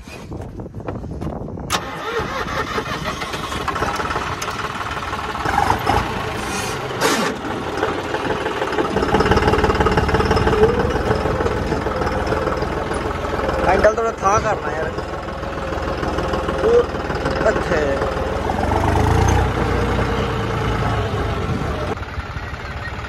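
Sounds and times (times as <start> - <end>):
tractor diesel engine running: 1.5 - 23.0.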